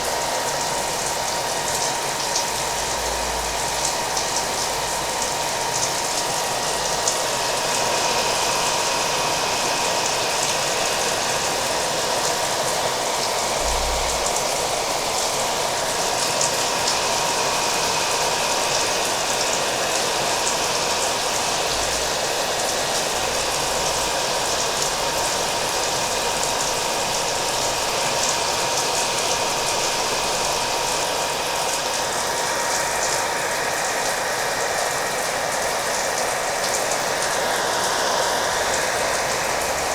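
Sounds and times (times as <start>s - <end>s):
continuous rain: 0.0s - 39.9s
hair dryer whining: 0.0s - 39.9s.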